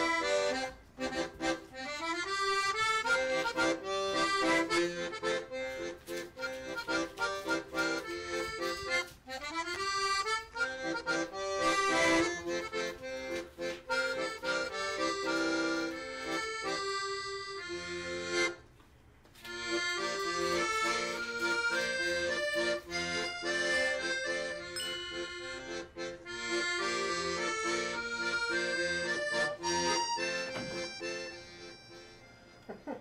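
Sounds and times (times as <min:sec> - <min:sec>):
instrumental background music: 0:00.0 - 0:18.6, 0:19.5 - 0:32.7.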